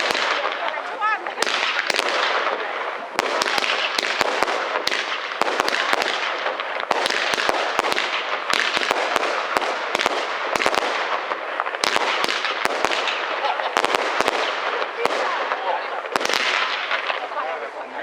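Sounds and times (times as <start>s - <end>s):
fireworks crackling and cracking: 0.0s - 18.0s.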